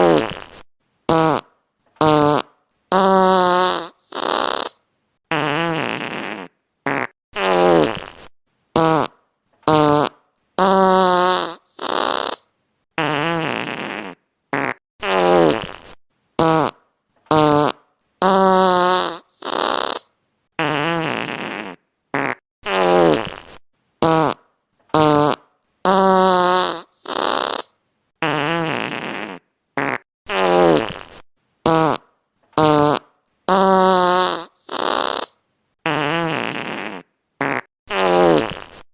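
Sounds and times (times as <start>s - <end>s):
fart sound effects: 0.0s - 38.9s.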